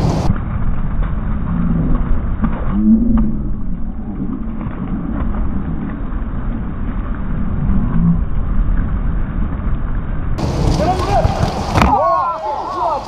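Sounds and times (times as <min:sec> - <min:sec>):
rain and wind on microphone: 0:00.0 - 0:13.0.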